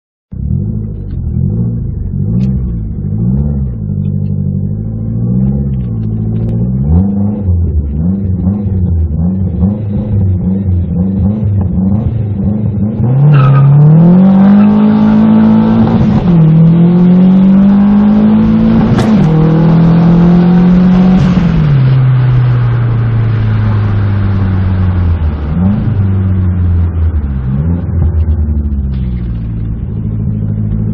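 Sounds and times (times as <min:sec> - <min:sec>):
turbocharged car engine revving: 0:00.3 - 0:30.9.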